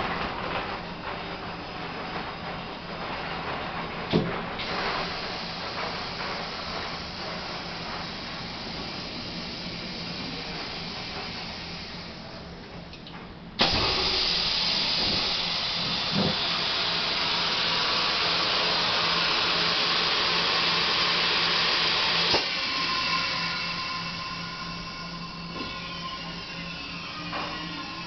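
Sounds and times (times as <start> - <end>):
heat press air hiss: 4.1 - 12.7, 13.6 - 28.0.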